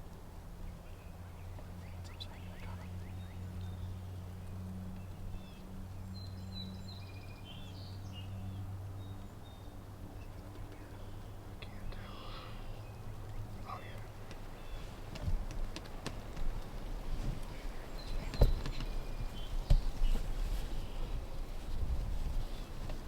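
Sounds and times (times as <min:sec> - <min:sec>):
birds calling: 0:00.6 - 0:23.0.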